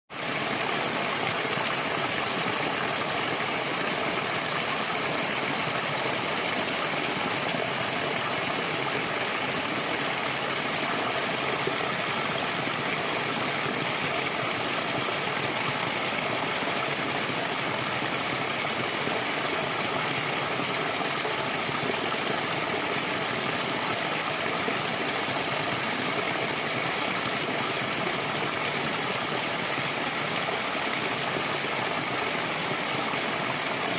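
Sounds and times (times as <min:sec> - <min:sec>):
flowing water rushing: 0:00.1 - 0:33.9.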